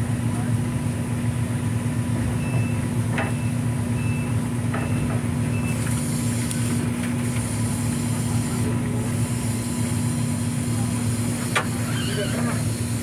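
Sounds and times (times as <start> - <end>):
low drone of machinery: 0.0 - 13.0.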